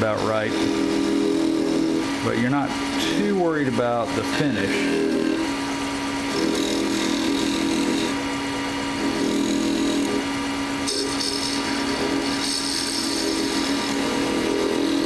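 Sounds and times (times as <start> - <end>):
gouge scraping spinning wood: 0.0 - 15.0
lathe motor hum: 0.0 - 15.0.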